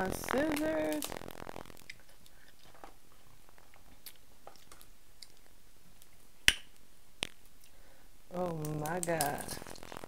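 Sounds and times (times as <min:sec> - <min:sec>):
crab shell clicks and crackles: 0:00.0 - 0:07.8, 0:08.4 - 0:10.0.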